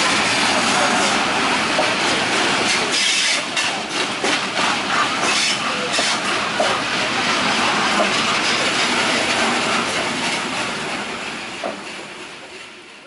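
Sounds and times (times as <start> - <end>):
train wheels on track: 0.0 - 13.0.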